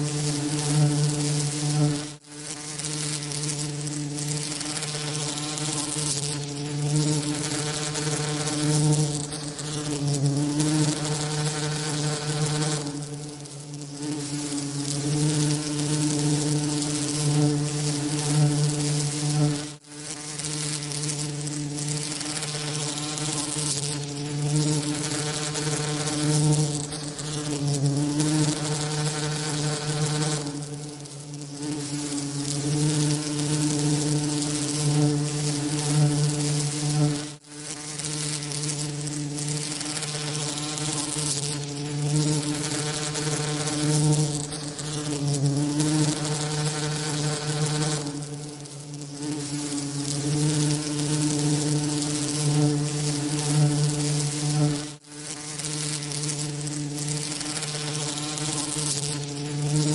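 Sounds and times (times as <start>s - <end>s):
bee wingbeat buzz: 0.0s - 59.9s
constant hiss: 0.0s - 59.9s.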